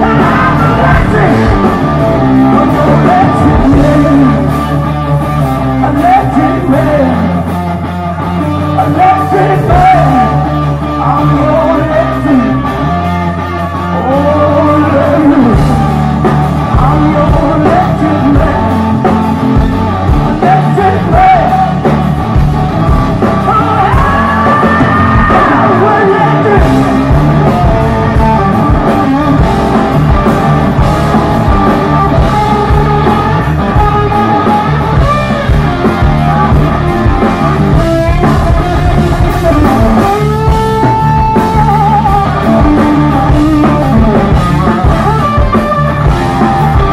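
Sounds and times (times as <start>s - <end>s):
man singing: 0.0s - 7.7s, 8.3s - 22.2s, 23.3s - 29.5s, 31.6s - 46.1s
bass guitar: 0.0s - 46.9s
drums: 0.0s - 46.9s
electric guitar: 0.0s - 46.9s.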